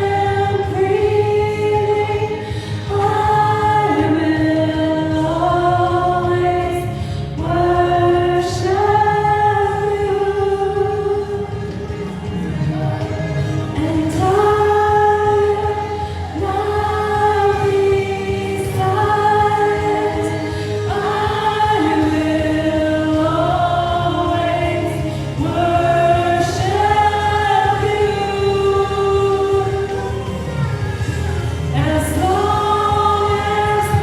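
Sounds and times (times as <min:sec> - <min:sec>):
instrumental backing: 0:00.0 - 0:34.0
voices singing worship song: 0:00.0 - 0:34.0.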